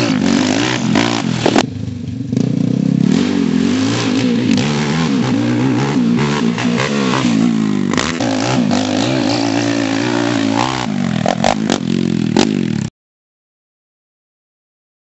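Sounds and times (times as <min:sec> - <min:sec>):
quad engine revving: 0:00.0 - 0:12.9.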